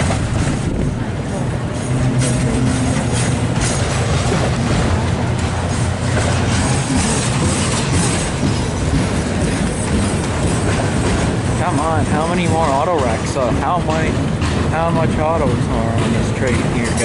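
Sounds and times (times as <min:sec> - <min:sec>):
train low rumble: 0:00.0 - 0:17.0
wheels clattering over rail joints: 0:00.0 - 0:17.0.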